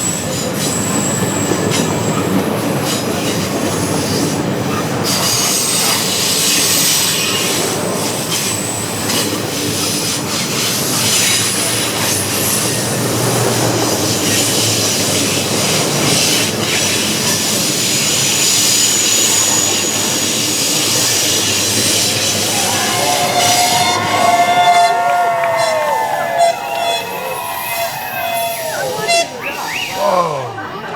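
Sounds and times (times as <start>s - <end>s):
high wheel squeal: 0.0s - 30.1s
train cars rolling on rails: 0.0s - 30.9s.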